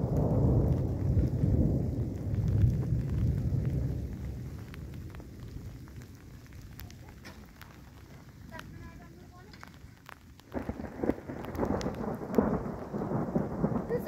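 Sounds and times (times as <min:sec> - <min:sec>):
thunder rumbling: 0:00.0 - 0:14.0.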